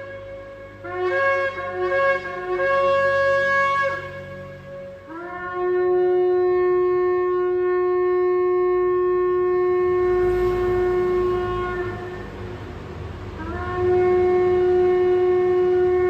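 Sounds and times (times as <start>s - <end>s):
shofar long blast: 0.0s - 16.0s.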